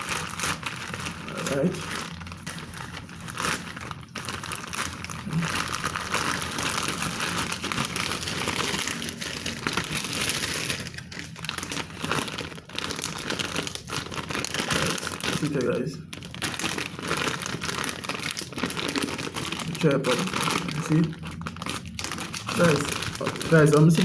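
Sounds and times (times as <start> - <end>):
crinkly packaging being crumpled: 0.0 - 24.0.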